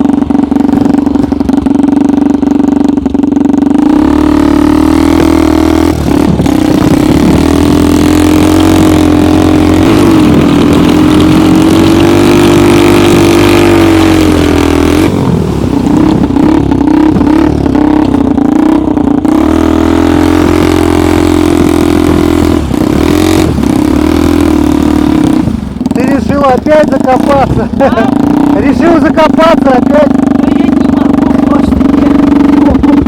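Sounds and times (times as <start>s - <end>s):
snowmobile engine at high revs: 0.0s - 33.0s.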